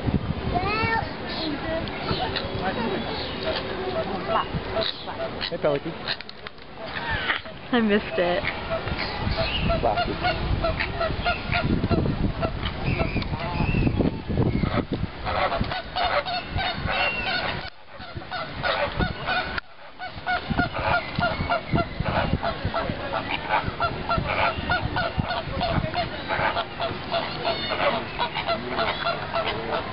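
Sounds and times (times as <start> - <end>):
birds honking: 1.3 - 29.9.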